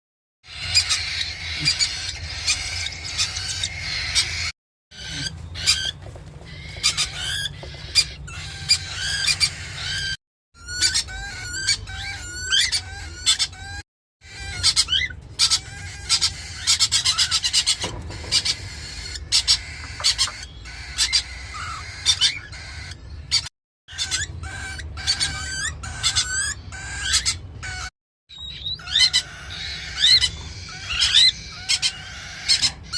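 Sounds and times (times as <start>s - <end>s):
birds chirping and calling: 0.4s - 32.9s.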